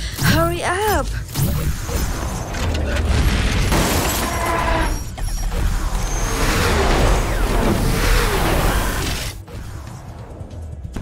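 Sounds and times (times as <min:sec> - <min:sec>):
mechanical robot sounds: 0:00.0 - 0:09.9.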